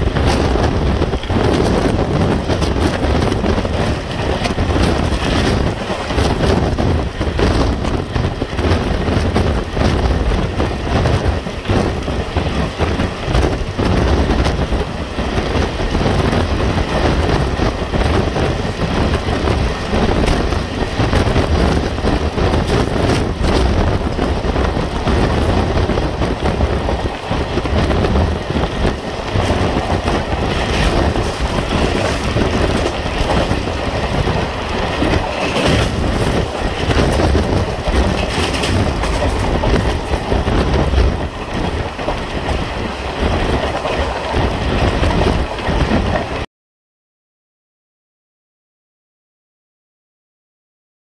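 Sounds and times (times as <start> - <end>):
train running noise: 0.0 - 46.5
train wheels clattering over rails: 0.0 - 46.5.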